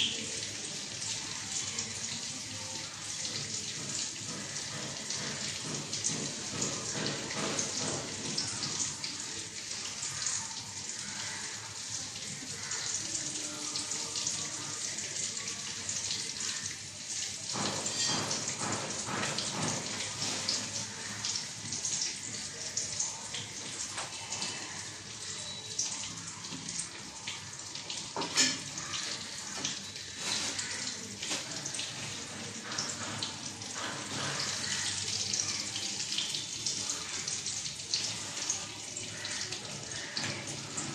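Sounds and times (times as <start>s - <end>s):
eggs sizzling in hot oil: 0.0s - 40.9s.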